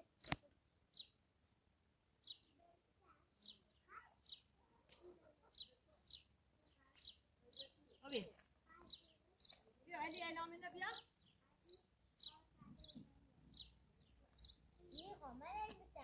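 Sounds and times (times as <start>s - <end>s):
bird chirping: 0.0s - 1.6s, 2.2s - 16.0s.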